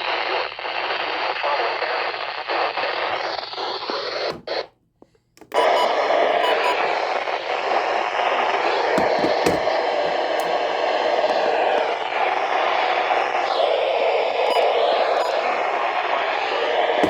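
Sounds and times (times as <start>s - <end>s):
radio static hiss: 0.0s - 4.8s, 5.6s - 17.0s.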